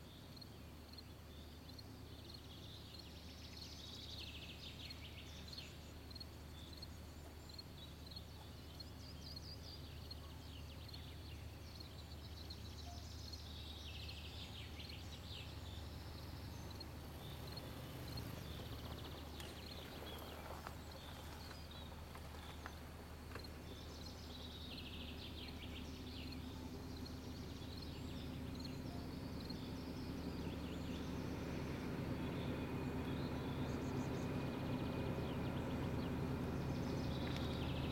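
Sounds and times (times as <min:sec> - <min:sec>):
songbirds trilling: 0:00.0 - 0:37.9
distant diesel locomotive drone: 0:00.1 - 0:37.9.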